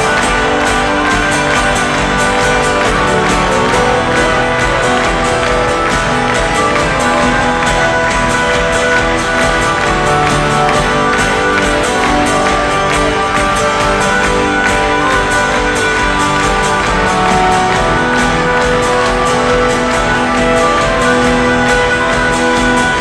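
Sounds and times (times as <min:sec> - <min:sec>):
steady drum beat: 0:00.0 - 0:23.0
strummed guitars: 0:00.0 - 0:23.0.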